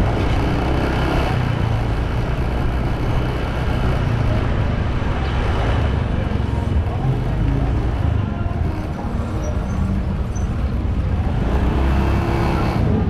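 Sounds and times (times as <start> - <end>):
motorbike engine and road noise: 0.0 - 13.0.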